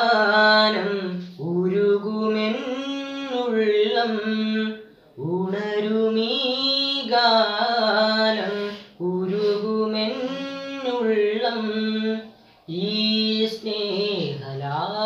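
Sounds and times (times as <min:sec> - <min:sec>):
boy singing unaccompanied: 0:00.0 - 0:15.0.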